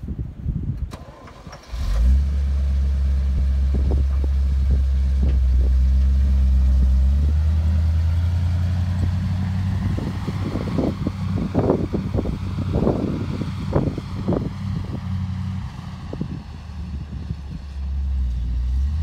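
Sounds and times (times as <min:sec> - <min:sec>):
truck engine starting and idling: 0:00.6 - 0:19.0.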